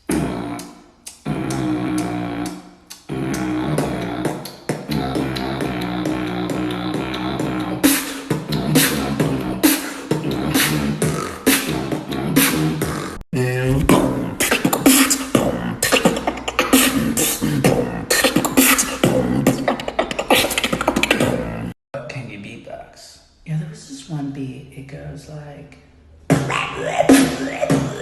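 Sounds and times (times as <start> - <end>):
gliding pitched mouth sound: 0.0 - 21.8, 26.3 - 28.0
person beatboxing: 0.0 - 21.8, 26.3 - 28.0.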